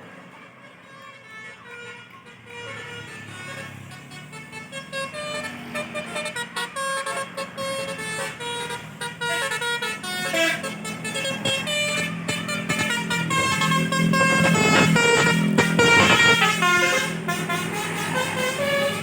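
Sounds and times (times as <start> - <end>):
musical air horn melody: 0.8 - 19.0.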